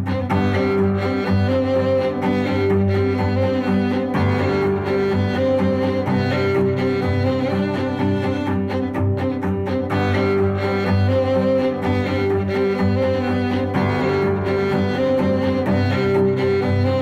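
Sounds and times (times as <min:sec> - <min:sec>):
bowed strings music: 0:00.0 - 0:17.0.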